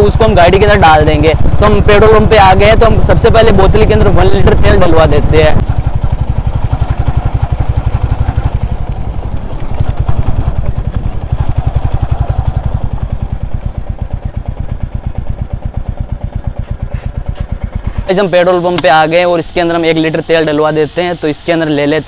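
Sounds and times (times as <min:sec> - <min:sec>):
motorcycle engine pulsing beat: 0:00.0 - 0:22.0.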